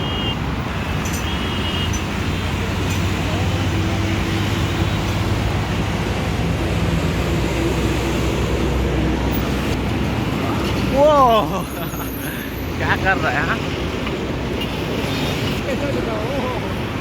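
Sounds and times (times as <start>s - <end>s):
traffic and road noise: 0.0s - 17.0s.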